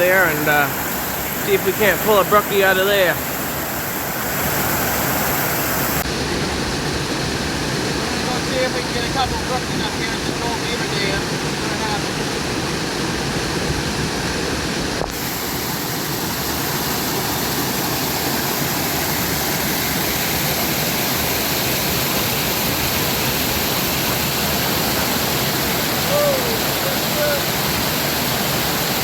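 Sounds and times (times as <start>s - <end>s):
brook water rushing: 0.0s - 29.0s.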